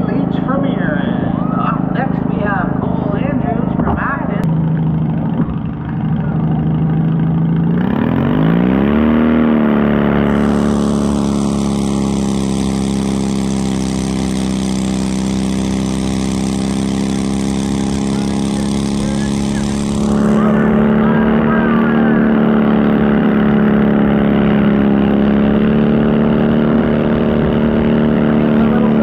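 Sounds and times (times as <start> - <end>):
garden tractor engine running: 0.0 - 29.0.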